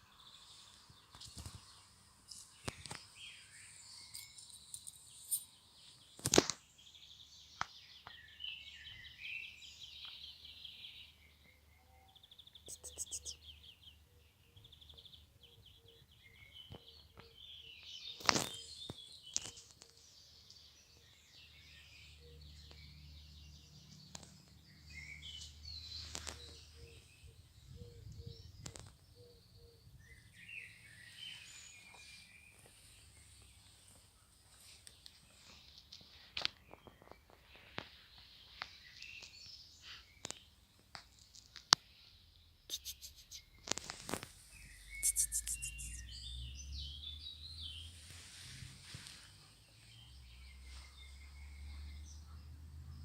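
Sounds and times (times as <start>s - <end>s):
small birds chirping and trilling: 0.0s - 53.0s.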